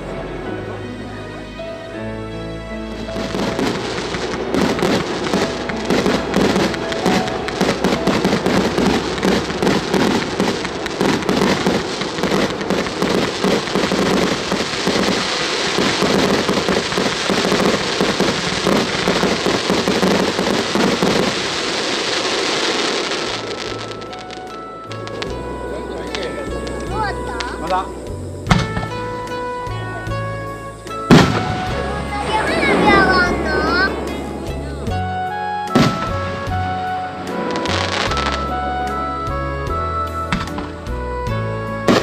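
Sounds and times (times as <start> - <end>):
fireworks crackling and popping: 2.9 - 42.0
fireworks hiss: 2.9 - 42.0.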